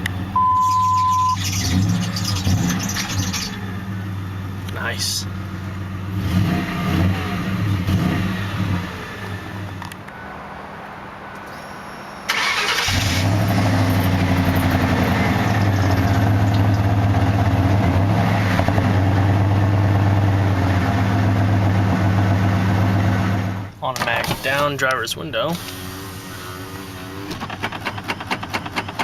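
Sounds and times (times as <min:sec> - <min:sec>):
car engine revving and idling: 0:00.0 - 0:10.2, 0:11.0 - 0:23.8, 0:24.4 - 0:29.0.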